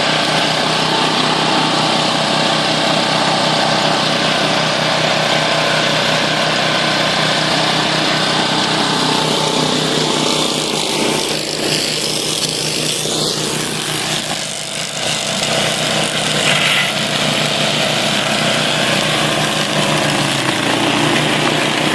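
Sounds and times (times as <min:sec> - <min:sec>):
flail mower engine running: 0:00.0 - 0:21.9.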